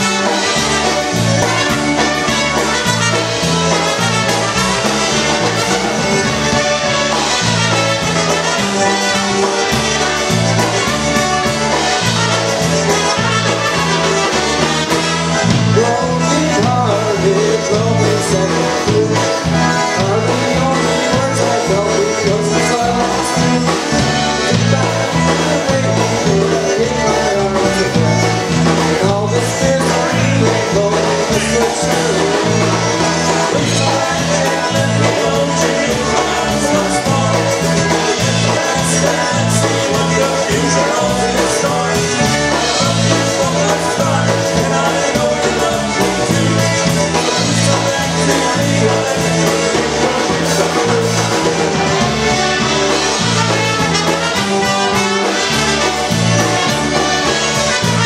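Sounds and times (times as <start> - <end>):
bass guitar: 0.0 - 58.0
concertina: 0.0 - 58.0
drums: 0.0 - 58.0
trumpets: 0.0 - 58.0.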